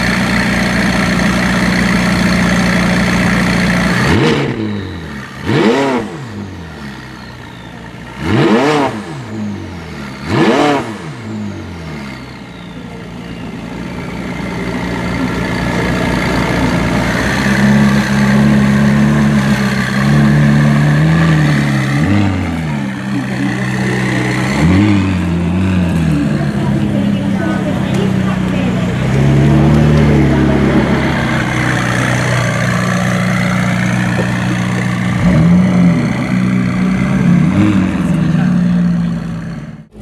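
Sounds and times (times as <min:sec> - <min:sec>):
sports car engine revving and idling: 0:00.0 - 0:40.0.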